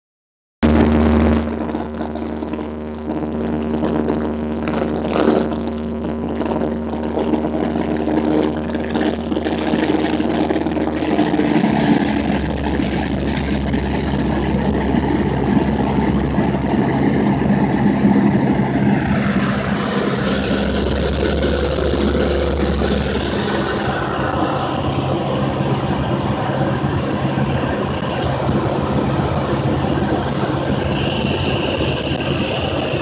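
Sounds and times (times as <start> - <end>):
airplane engine and propeller: 0.6 - 33.0
airflow noise: 0.7 - 33.0.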